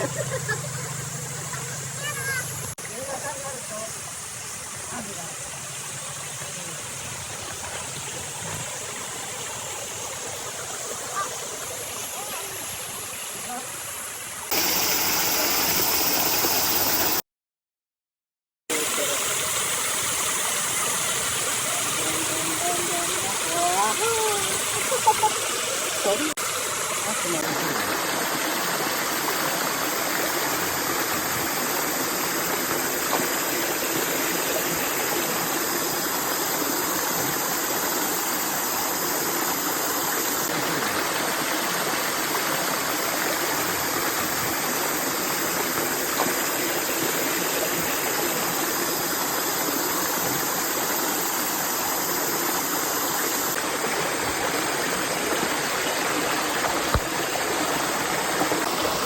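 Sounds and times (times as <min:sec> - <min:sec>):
stream water rushing: 0:00.0 - 0:17.2, 0:18.7 - 0:59.0.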